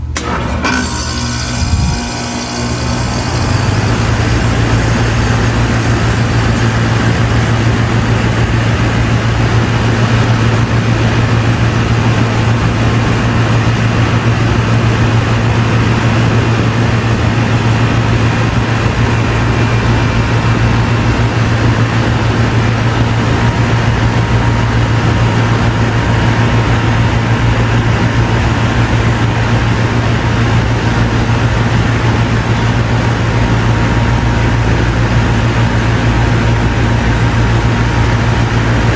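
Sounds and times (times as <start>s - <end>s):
air conditioner running: 0.0s - 38.9s.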